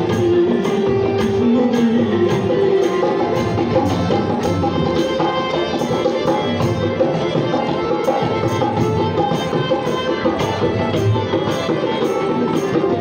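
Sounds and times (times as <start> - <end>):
harmonium and keyboard notes: 0.0 - 13.0
tabla and dholak beat: 0.0 - 13.0.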